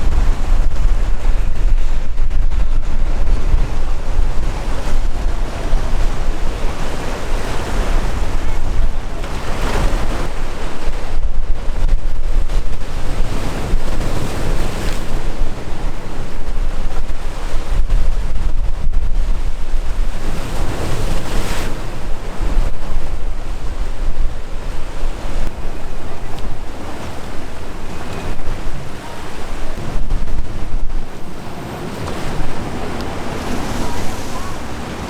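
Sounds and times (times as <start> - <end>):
sea waves breaking: 0.0 - 35.0
wind buffeting microphone: 0.0 - 35.0.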